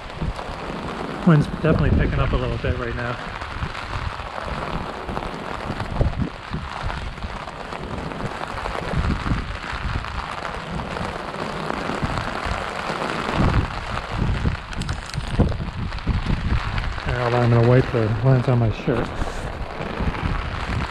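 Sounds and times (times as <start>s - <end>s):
heavy rain pouring: 0.0s - 20.9s
wind buffeting microphone: 0.0s - 20.9s.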